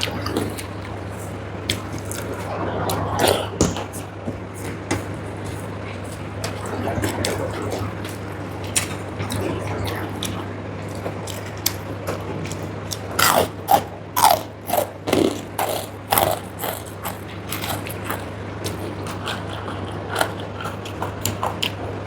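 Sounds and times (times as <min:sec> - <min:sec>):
chewing crisp food: 0:00.0 - 0:22.0
steady low hum: 0:00.0 - 0:22.0.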